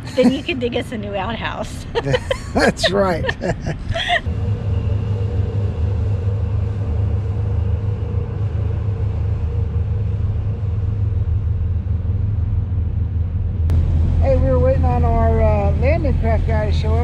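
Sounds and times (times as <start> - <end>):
boat diesel engine rumbling: 0.0 - 17.0
faint steady hum: 0.0 - 17.0.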